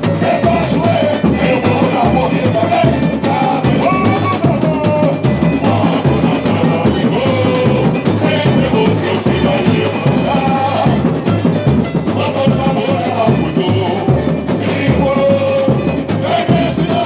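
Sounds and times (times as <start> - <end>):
men singing over loudspeakers: 0.0 - 17.0
samba drum beat: 0.0 - 17.0.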